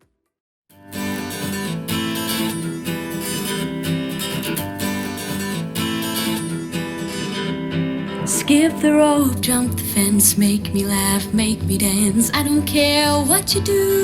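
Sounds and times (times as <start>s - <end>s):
strummed acoustic guitar: 0.7s - 14.0s.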